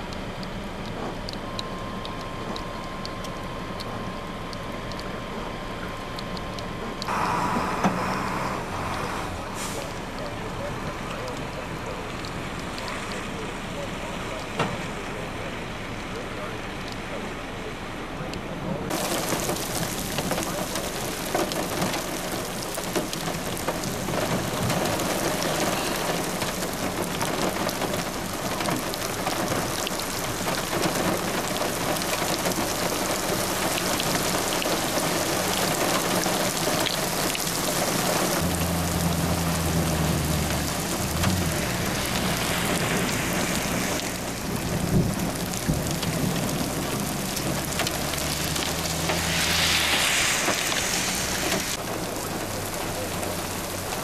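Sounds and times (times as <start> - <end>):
heavy rain pouring: 6.6 - 15.8, 18.9 - 54.0.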